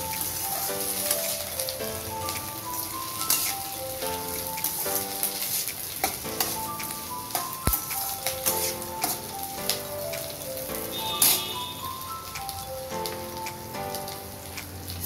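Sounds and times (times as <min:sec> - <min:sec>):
light background music: 0:00.0 - 0:15.0
vegetables sizzling in oil: 0:00.0 - 0:15.0.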